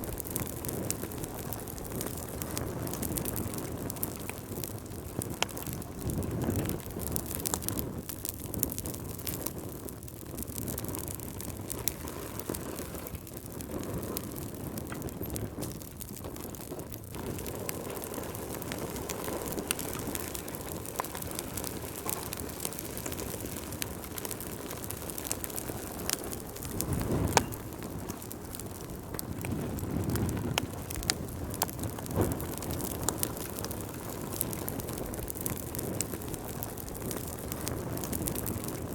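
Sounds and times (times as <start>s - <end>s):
low rush of flames: 0.0s - 38.9s
wood fire crackling and popping: 0.0s - 38.9s.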